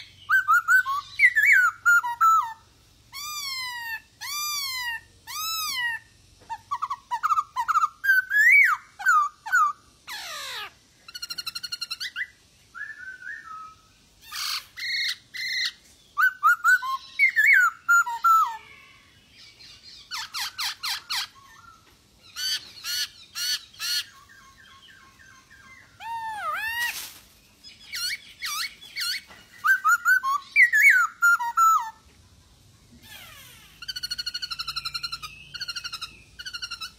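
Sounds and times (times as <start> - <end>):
bird singing whistled notes: 0.0 - 26.9, 27.6 - 32.0, 33.8 - 36.9.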